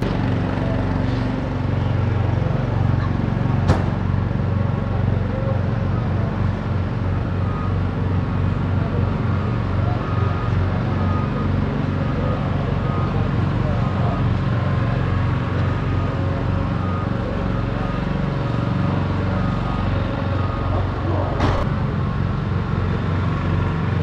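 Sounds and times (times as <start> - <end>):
low engine-like rumble: 0.0 - 24.0.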